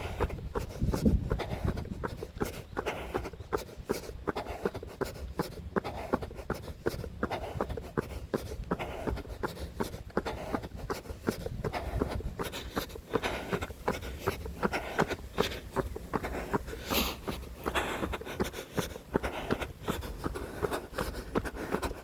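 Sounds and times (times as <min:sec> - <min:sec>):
running footsteps on pavement: 0:00.0 - 0:22.0.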